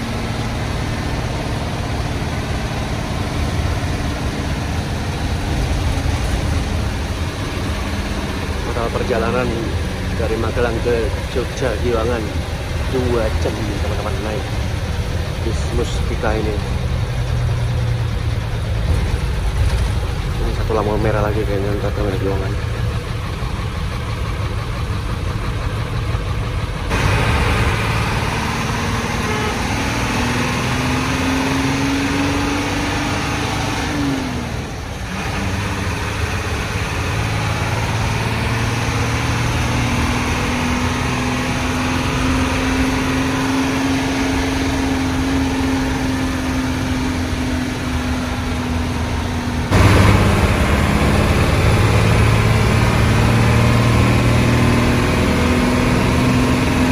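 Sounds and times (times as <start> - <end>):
diesel bus engine growling: 0.0 - 56.9.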